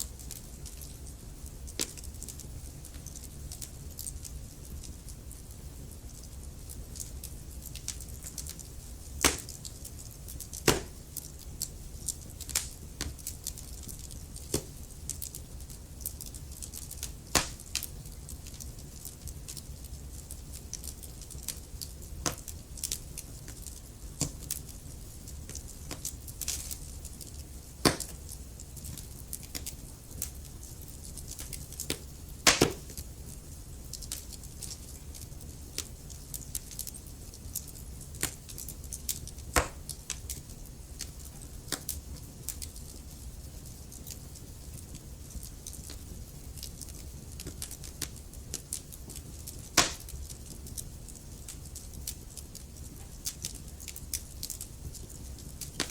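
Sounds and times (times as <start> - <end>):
low rumble of flames: 0.0 - 55.9
wood fire crackles and pops: 0.0 - 55.9.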